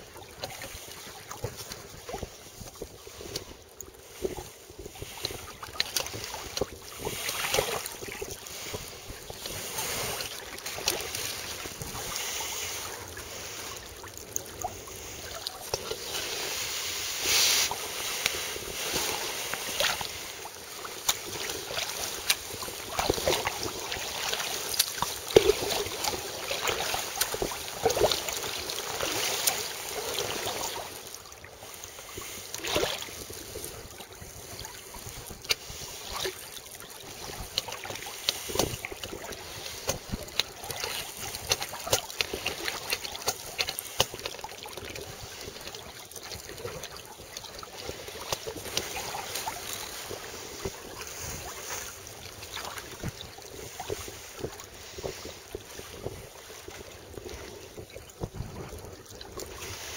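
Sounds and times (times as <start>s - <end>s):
water splashing against kayak hull: 0.0s - 59.9s.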